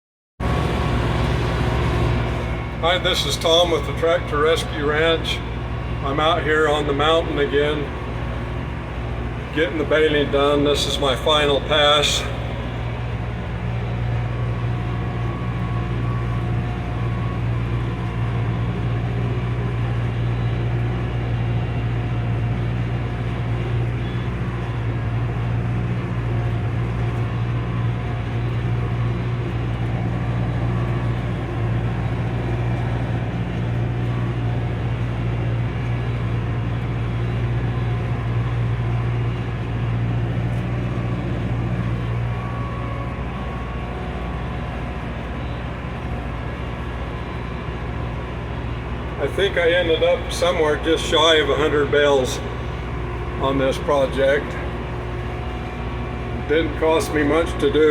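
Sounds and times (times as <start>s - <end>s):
tractor engine drone: 0.4s - 57.9s.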